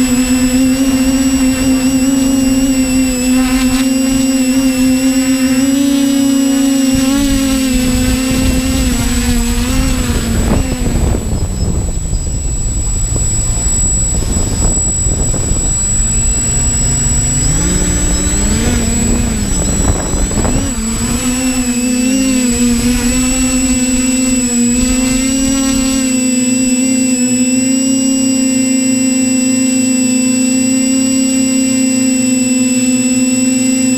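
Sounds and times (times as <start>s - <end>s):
quadcopter propellers humming: 0.0s - 33.9s.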